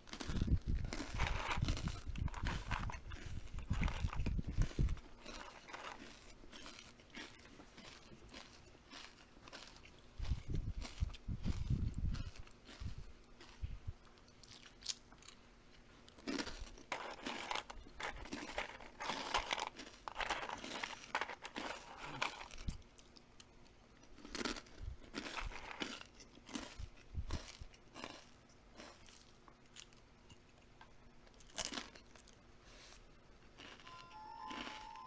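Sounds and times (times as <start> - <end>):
crunchy biting and chewing: 0.0 - 35.0.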